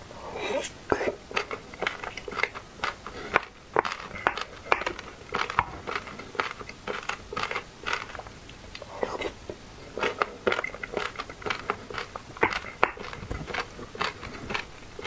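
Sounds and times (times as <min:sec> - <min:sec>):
chewing with wet mouth smacks: 0:00.9 - 0:09.4, 0:10.0 - 0:15.0.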